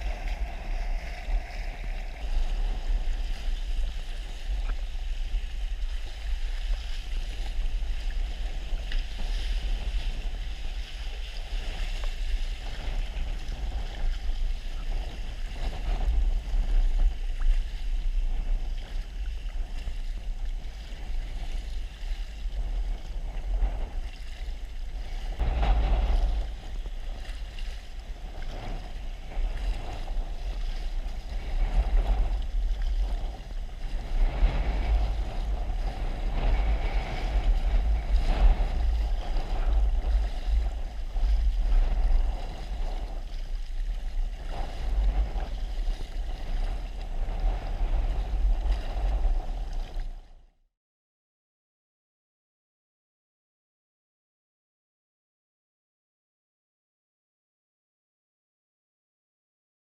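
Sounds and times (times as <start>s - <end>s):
water sloshing around kayak: 0.0s - 50.3s
wind buffeting microphone: 0.0s - 50.5s.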